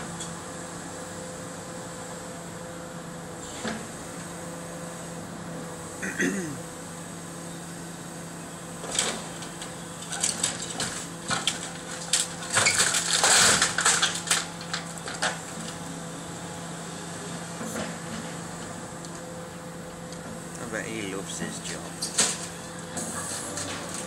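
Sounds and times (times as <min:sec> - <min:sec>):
excavator engine droning: 0:00.0 - 0:24.0.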